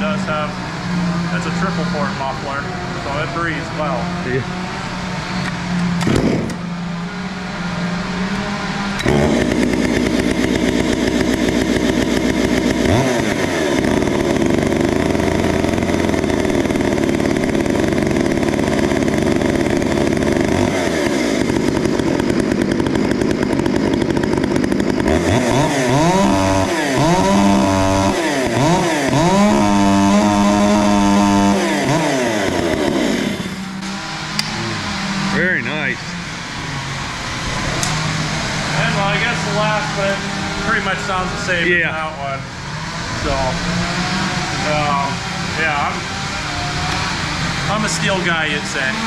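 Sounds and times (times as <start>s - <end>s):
chainsaw running and revving: 0.0s - 49.0s
chainsaw pull-starting: 5.4s - 6.7s, 9.0s - 35.7s, 37.5s - 49.0s.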